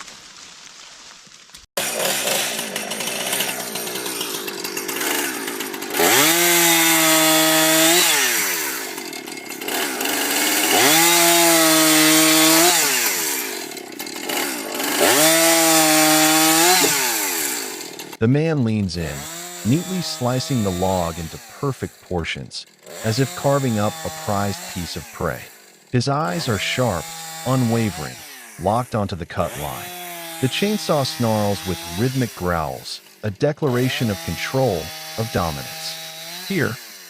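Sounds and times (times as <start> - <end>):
chainsaw revving and cutting: 1.7 - 18.2, 18.8 - 37.0.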